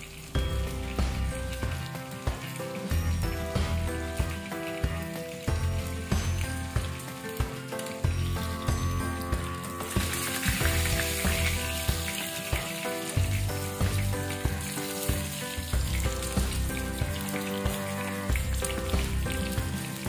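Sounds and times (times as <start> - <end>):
background music with bass line: 0.0 - 20.0
oil sizzling in a pan: 0.0 - 20.0.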